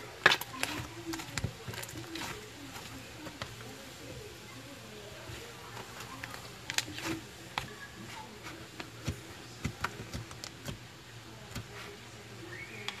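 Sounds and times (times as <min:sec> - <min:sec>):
slime squishing by hand: 0:00.0 - 0:13.0.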